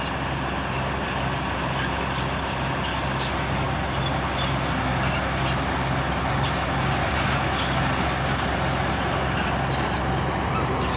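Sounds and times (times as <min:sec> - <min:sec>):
bulldozer diesel engine running: 0:00.0 - 0:10.9.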